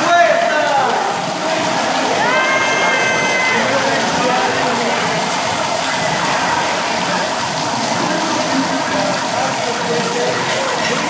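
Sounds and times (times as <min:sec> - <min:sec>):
fire hoses spraying water: 0:00.0 - 0:11.0.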